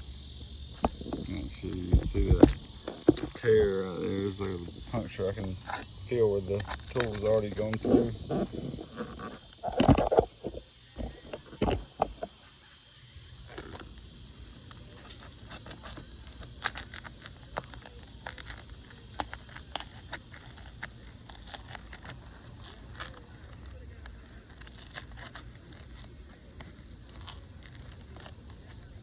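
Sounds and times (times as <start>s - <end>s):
insects droning: 0.0s - 29.0s
metal tool scraping shingles: 1.0s - 10.2s, 13.5s - 29.0s.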